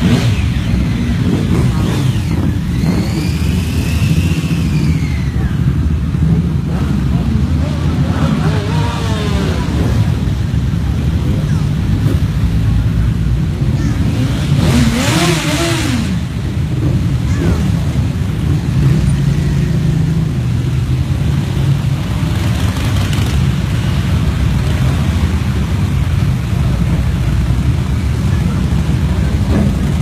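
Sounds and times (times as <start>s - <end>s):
motorcycle engines running: 0.0s - 30.0s
motorcycle revving: 0.0s - 30.0s.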